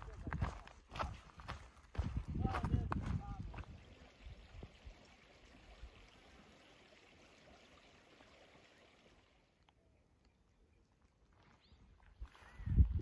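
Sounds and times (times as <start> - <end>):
faint creek trickling: 0.0 - 12.9.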